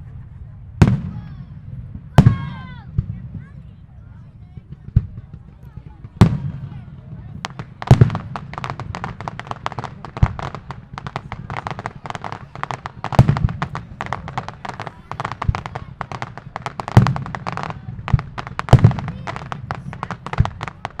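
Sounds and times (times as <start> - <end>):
fireworks crackling: 0.0 - 21.0
heavy fireworks booms: 0.0 - 21.0.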